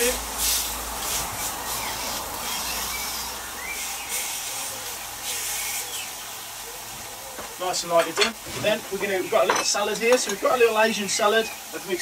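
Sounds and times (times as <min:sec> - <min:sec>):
seafood sizzling in a frying pan: 0:00.0 - 0:12.0.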